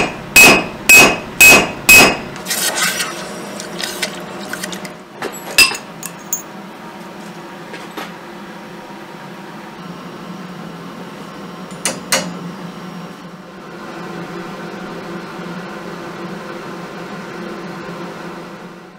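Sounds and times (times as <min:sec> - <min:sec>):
fan-like hum: 0:00.0 - 0:18.9.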